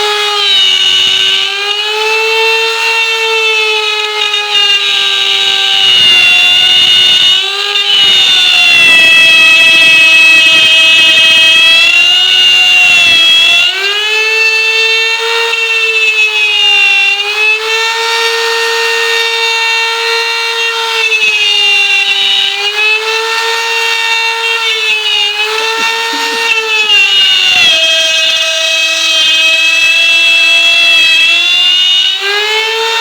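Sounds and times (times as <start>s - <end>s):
router bit cutting wood: 0.0s - 33.0s
wood router whining: 0.0s - 33.0s.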